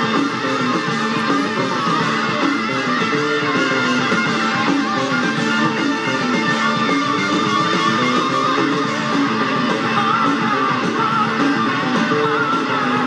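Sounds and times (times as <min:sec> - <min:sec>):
bass and drums: 0:00.0 - 0:13.0
electric guitar lead: 0:00.0 - 0:13.0.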